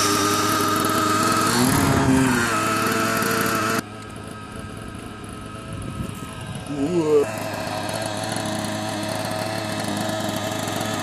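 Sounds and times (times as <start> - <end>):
model engine idling: 0.0 - 11.0.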